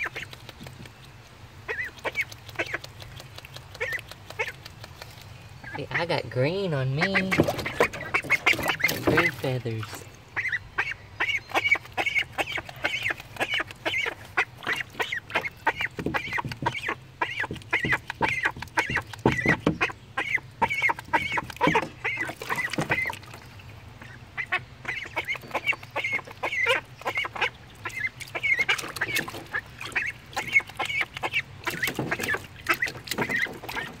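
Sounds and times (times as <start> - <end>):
ducklings peeping: 0.0 - 34.0.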